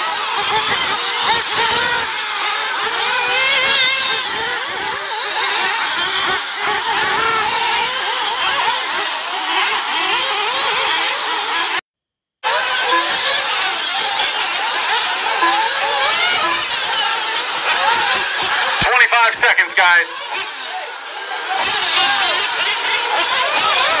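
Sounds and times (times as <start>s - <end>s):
rc car motors whining: 0.0s - 11.8s, 12.4s - 18.8s, 19.5s - 24.0s.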